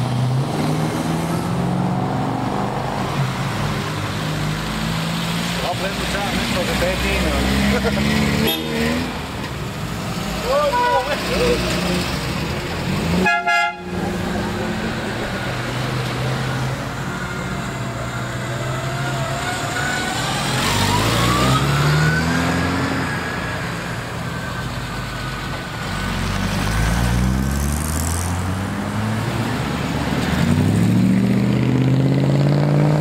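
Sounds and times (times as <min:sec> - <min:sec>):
cars accelerating away: 0:00.0 - 0:13.3, 0:14.0 - 0:24.1, 0:25.8 - 0:33.0.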